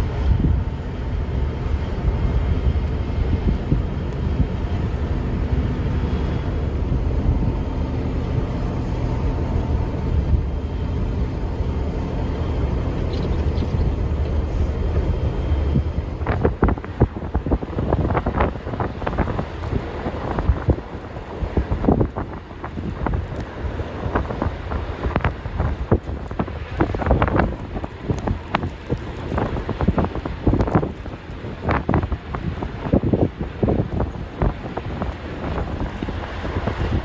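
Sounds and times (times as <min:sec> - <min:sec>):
vehicle engine rumble: 0:00.0 - 0:37.0
wind noise: 0:00.0 - 0:37.0.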